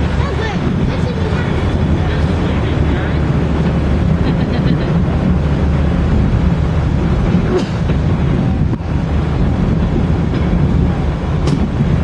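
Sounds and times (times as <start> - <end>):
brake van rumbling on track: 0.0 - 12.0.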